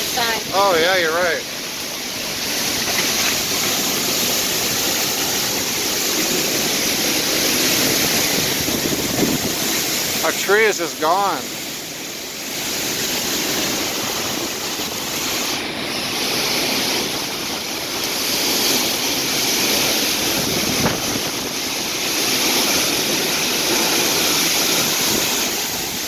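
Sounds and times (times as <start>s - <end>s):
driving rain: 0.0s - 26.0s
wind rushing through trees: 0.0s - 26.0s.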